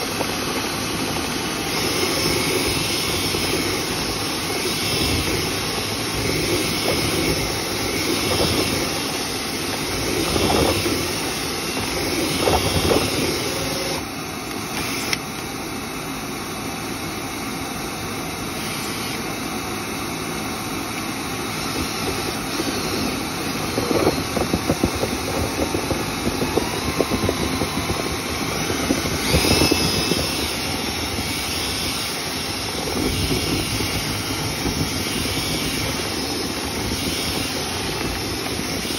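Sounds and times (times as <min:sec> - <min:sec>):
loud rush of air: 0:00.0 - 0:15.1, 0:18.0 - 0:38.9.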